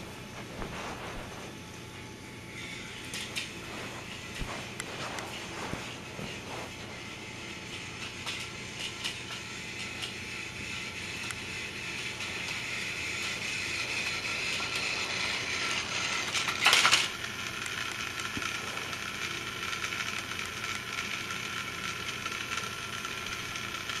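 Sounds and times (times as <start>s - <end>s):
toy train motor whirring: 2.4s - 24.0s.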